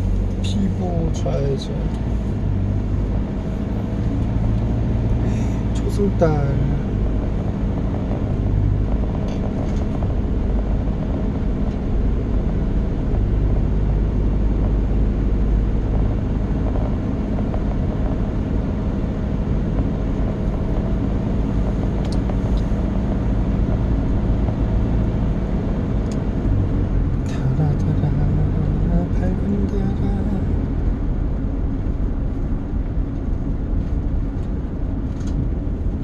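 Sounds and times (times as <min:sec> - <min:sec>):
car cabin low rumble: 0:00.0 - 0:36.0.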